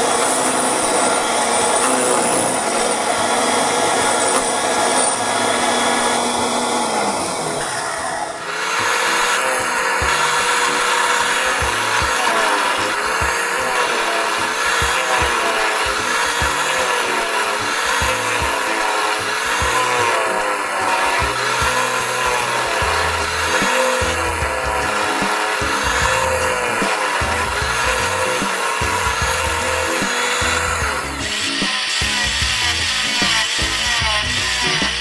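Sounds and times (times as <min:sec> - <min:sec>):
power tool cutting wood: 0:00.0 - 0:35.0.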